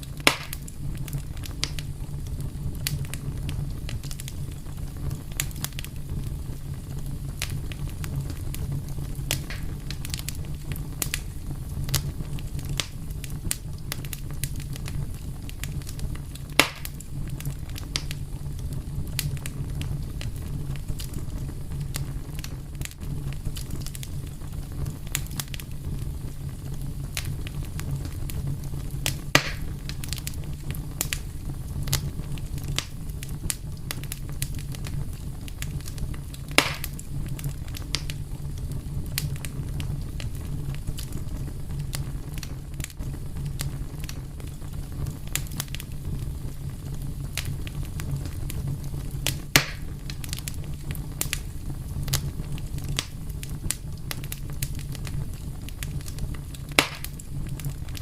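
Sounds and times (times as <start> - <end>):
fire crackling: 0.0 - 58.0
fire popping and snapping: 0.0 - 58.0.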